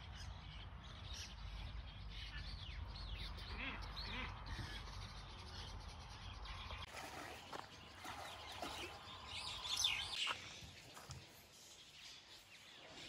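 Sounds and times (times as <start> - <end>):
birds calling and chirping: 0.0 - 13.0
outdoor background noise: 0.0 - 13.0.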